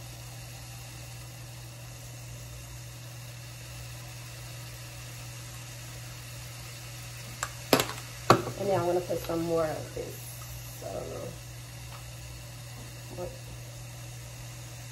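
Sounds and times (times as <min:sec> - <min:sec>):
even hiss: 0:00.0 - 0:14.9
steady low hum: 0:00.0 - 0:14.9.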